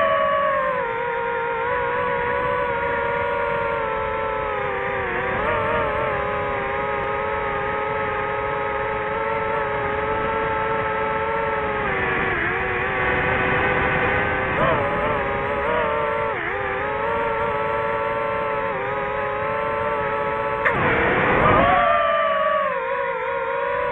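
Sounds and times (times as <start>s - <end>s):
drone motors humming: 0.0s - 23.9s.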